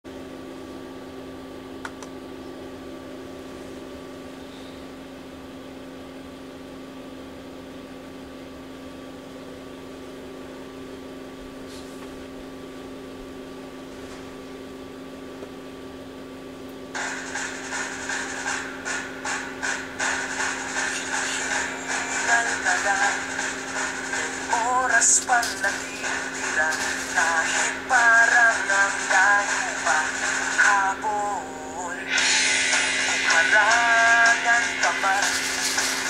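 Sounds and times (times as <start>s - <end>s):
low machine hum: 0.1s - 36.0s.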